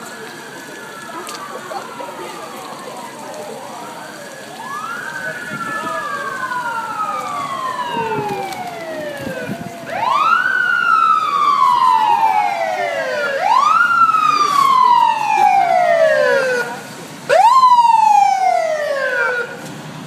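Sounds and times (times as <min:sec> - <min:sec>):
emergency vehicle siren wailing: 0:00.0 - 0:20.0.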